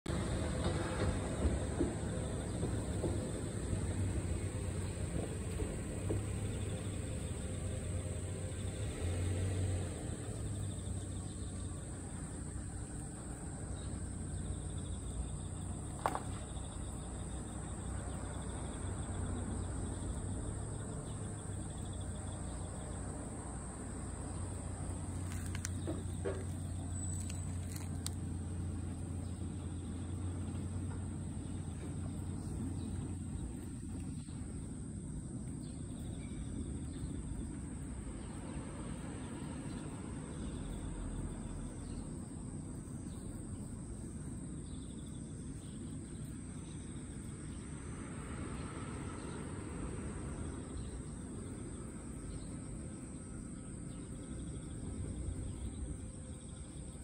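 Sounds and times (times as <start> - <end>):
low background rumble: 9.7 - 48.3, 49.2 - 57.0.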